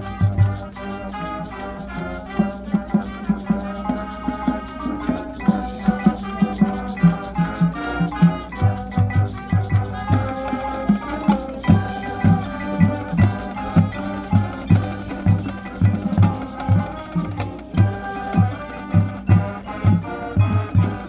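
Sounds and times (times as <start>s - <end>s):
brass and woodwind chords: 0.0s - 21.0s.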